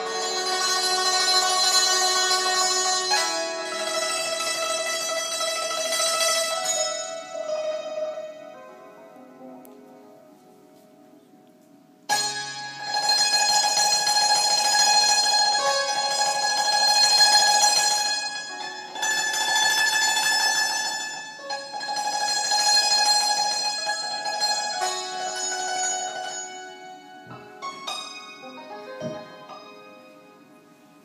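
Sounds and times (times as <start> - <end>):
hammered dulcimer playing: 0.0 - 9.7, 12.1 - 31.0.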